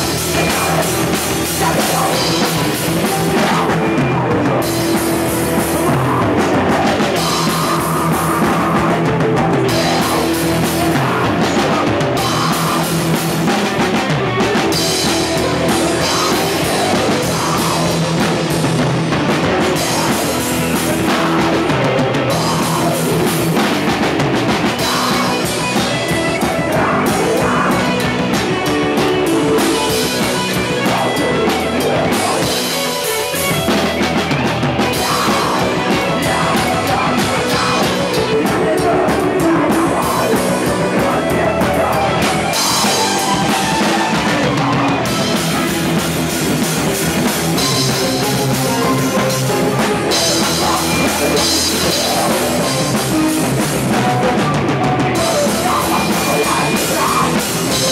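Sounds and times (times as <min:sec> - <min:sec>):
rock band playing: 0:00.0 - 0:57.9.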